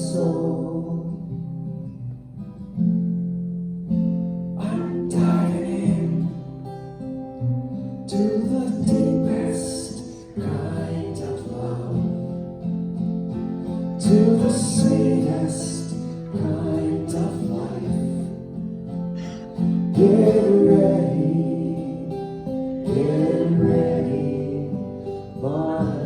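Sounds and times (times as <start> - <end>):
person singing slow song: 0.0 - 1.9, 4.6 - 7.1, 8.1 - 26.0
acoustic guitar strumming: 0.0 - 26.0.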